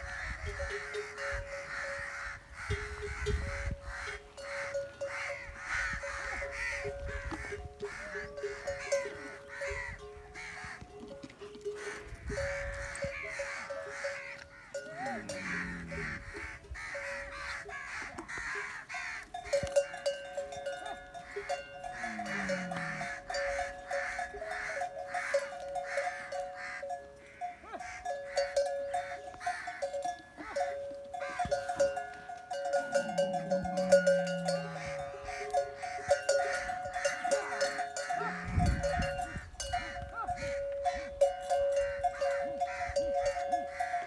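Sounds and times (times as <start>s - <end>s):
camel bells clanking: 0.0s - 44.0s.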